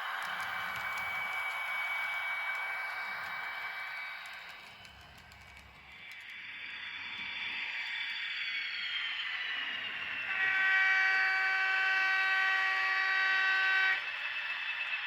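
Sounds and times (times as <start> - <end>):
hiss with falling whine: 0.0 - 13.0.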